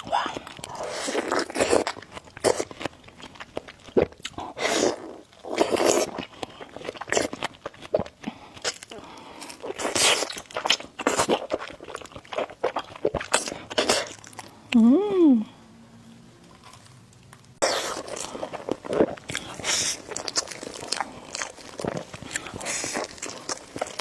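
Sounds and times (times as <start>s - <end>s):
person biting and chewing food: 0.0s - 14.8s, 17.6s - 24.0s.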